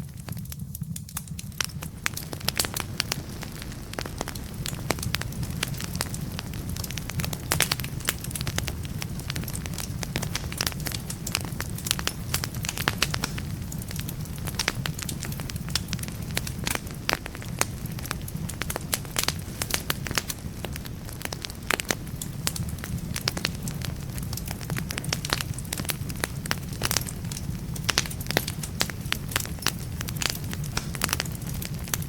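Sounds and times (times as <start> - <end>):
logs crackling and popping: 0.0 - 32.0
low rumble of flames: 0.0 - 32.0.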